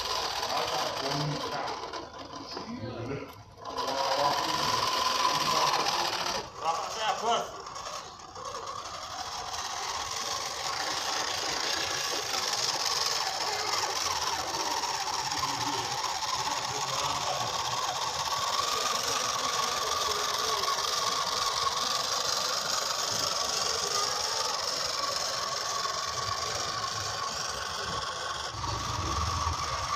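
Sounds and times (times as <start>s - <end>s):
small electric motor whirring: 0.0s - 29.9s.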